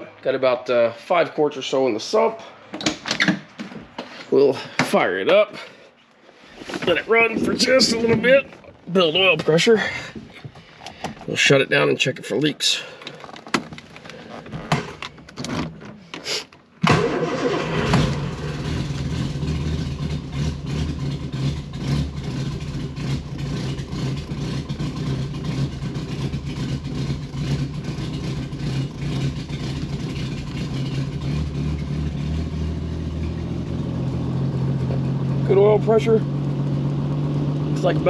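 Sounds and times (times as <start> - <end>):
car engine starting and idling: 6.5 - 38.0.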